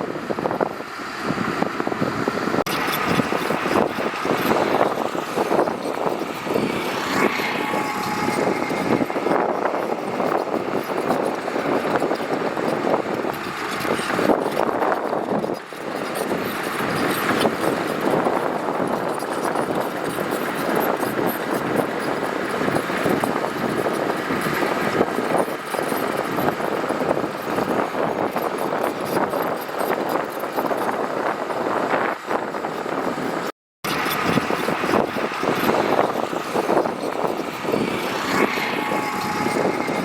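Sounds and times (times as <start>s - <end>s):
heavy earthmoving machinery running: 0.0s - 40.0s.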